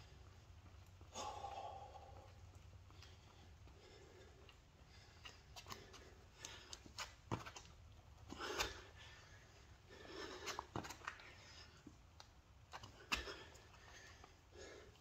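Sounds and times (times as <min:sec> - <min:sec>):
hard breathing from exercise: 0:01.0 - 0:07.1, 0:08.2 - 0:12.0, 0:12.8 - 0:15.0.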